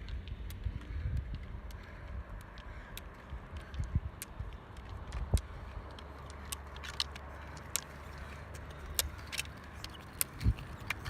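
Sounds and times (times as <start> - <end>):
ski pole tips clicking on asphalt: 0.0 - 11.0
steady low rumble: 0.0 - 11.0.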